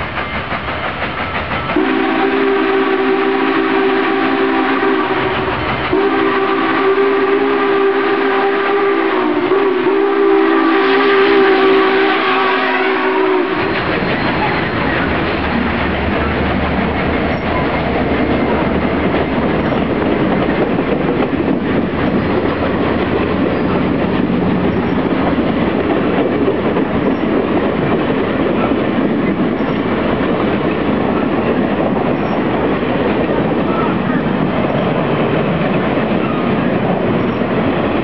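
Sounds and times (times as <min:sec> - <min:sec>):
locomotive engine hum: 0:00.0 - 0:38.0
train wheels rumbling on rails: 0:00.0 - 0:38.0.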